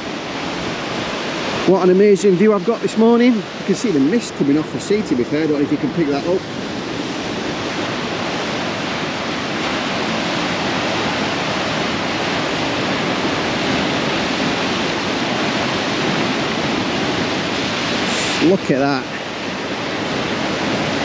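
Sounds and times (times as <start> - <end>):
surf breaking over rocks: 0.0 - 21.0.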